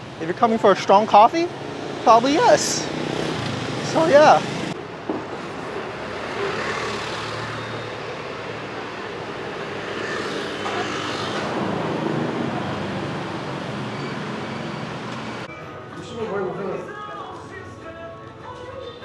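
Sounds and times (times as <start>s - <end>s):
passing vehicles: 0.0s - 15.5s.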